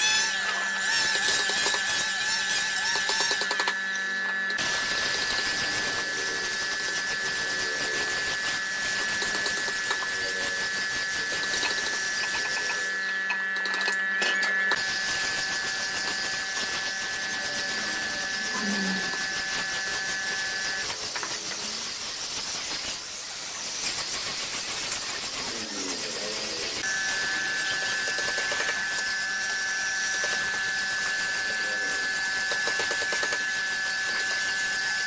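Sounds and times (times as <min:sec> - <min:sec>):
electric power tool whining: 0:00.0 - 0:21.8, 0:25.4 - 0:35.0.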